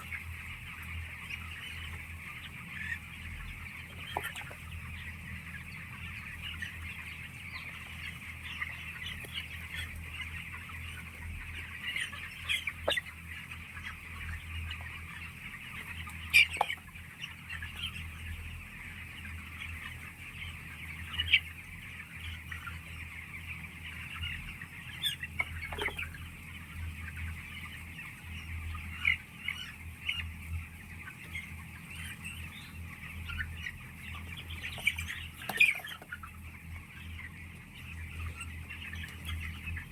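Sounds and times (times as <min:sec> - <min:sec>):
chicken squawks: 0:00.0 - 0:39.9
chickens chattering: 0:00.0 - 0:39.9.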